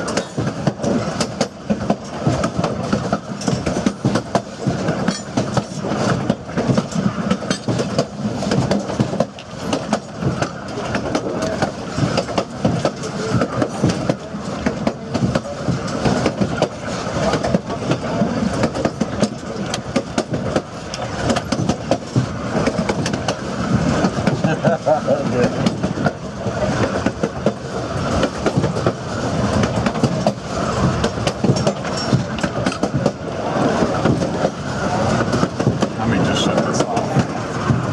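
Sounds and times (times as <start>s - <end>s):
train wheels on rails: 0.0s - 37.9s
wheels clicking over rail joints: 0.0s - 37.9s.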